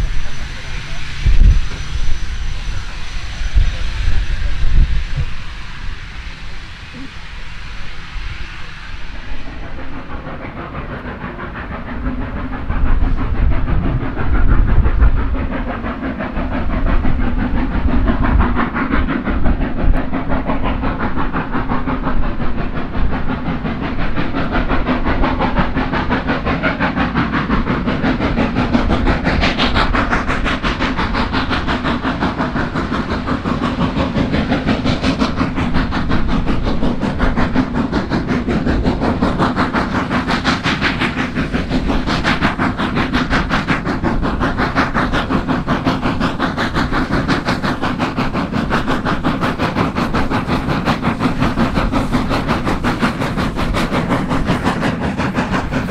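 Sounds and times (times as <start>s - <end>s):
steam hissing: 0.0s - 55.9s
train wheels clattering: 0.0s - 55.9s.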